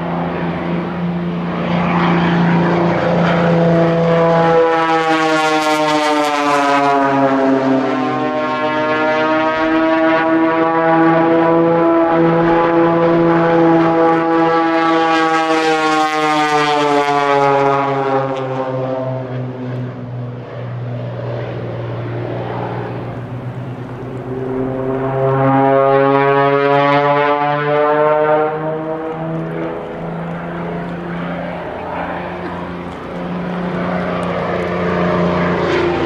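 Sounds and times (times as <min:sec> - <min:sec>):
propeller plane droning overhead: 0:00.0 - 0:36.0.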